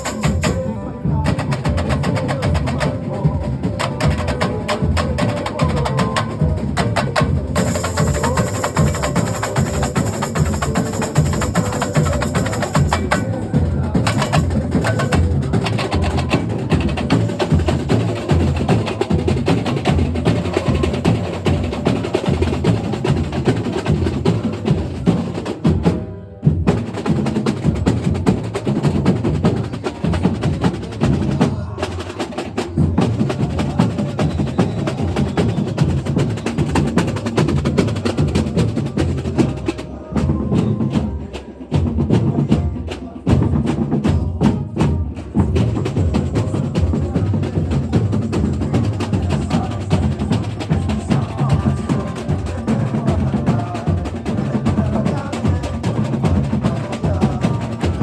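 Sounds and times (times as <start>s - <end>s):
drum section playing fast rhythm: 0.0s - 58.0s.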